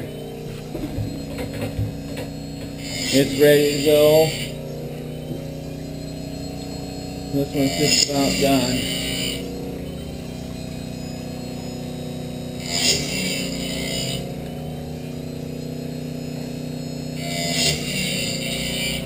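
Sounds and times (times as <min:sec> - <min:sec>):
grinding wheel hissing: 0:00.0 - 0:19.0
motor humming: 0:00.0 - 0:19.0.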